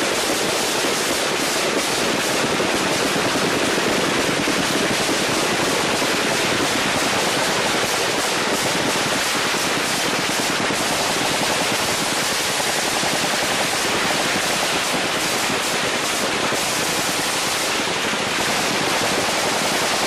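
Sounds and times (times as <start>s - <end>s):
automatic gunfire: 0.0s - 20.0s.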